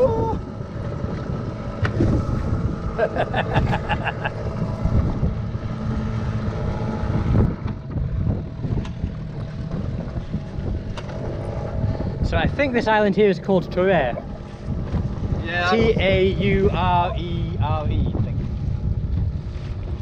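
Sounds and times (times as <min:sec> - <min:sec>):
boat engine drone: 0:00.0 - 0:20.0
wind buffeting microphone: 0:00.0 - 0:20.0.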